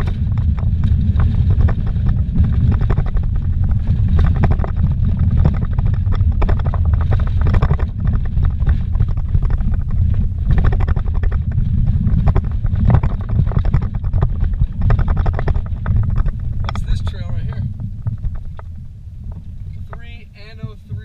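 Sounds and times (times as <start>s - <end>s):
engine and tyres rumbling: 0.0s - 21.0s
vehicle knocking and rattling: 0.0s - 21.0s.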